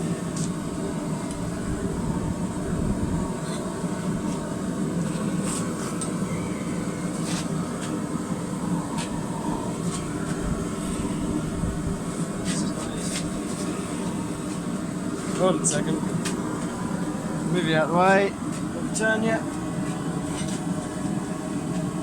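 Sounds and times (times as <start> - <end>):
forge running: 0.0 - 22.0.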